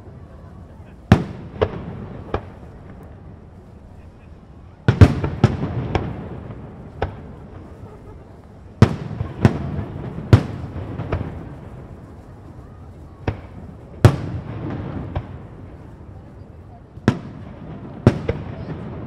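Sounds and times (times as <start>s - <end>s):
fireworks bangs with rumbling echo: 0.0s - 19.0s.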